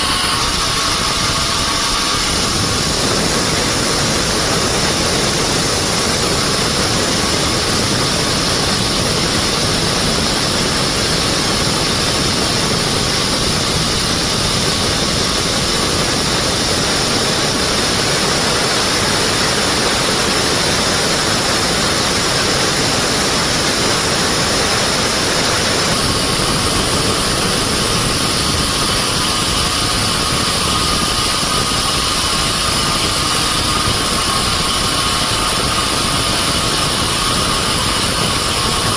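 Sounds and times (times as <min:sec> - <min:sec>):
band sawmill running: 0:00.0 - 0:38.9
high steady whines: 0:00.0 - 0:38.9.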